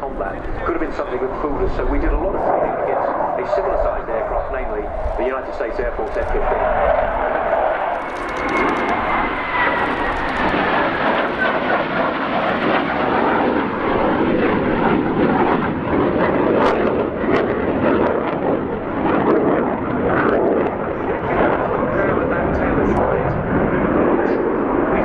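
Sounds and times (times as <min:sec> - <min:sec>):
jet engine roar with whine: 0:00.0 - 0:25.0.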